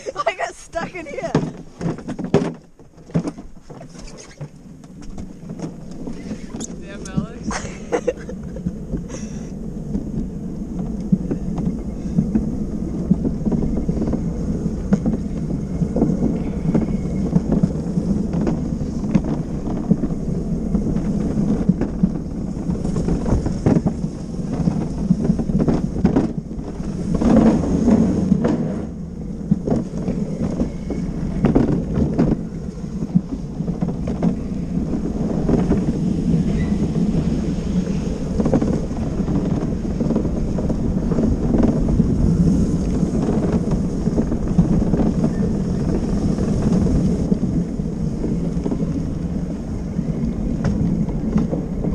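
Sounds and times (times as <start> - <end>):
cart knocking and rattling: 0.0 - 51.9
cart wheels rumbling on asphalt: 0.0 - 51.9.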